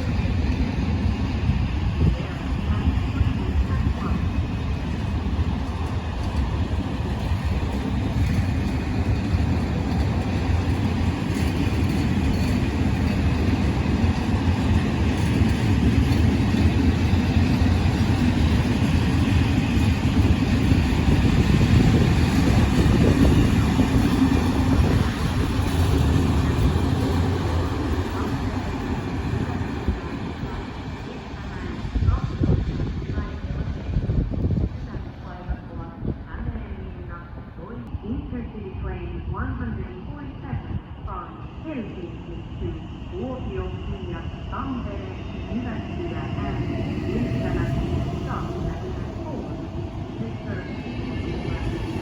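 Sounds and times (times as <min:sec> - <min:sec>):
train rumbling along tracks: 0:00.0 - 0:52.0.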